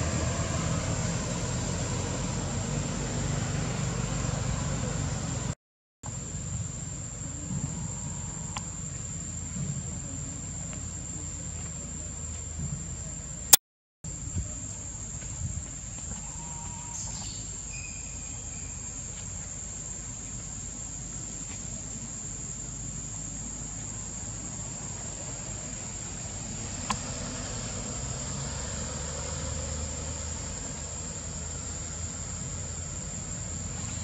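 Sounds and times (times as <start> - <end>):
insect drone: 0.0 - 13.5, 14.1 - 34.0.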